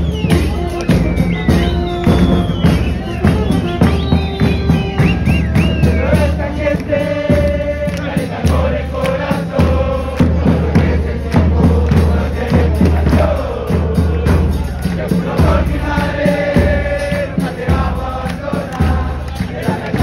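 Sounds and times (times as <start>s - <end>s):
crowd chanting and singing: 0.0s - 20.0s
drums beating: 0.0s - 20.0s.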